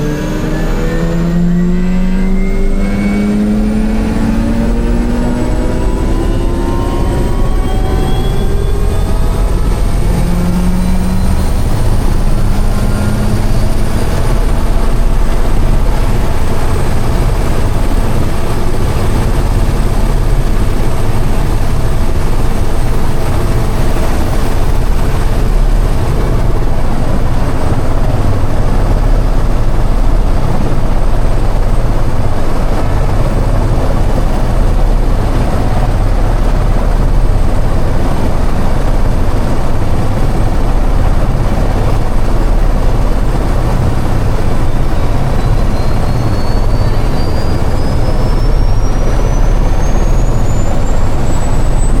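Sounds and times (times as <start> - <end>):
helicopter rotor and engine noise: 0.0 - 52.0.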